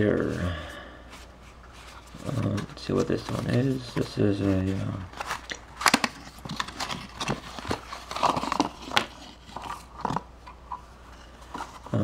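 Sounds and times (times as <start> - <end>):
cardboard and paper rustling: 1.1 - 10.3, 11.1 - 12.0.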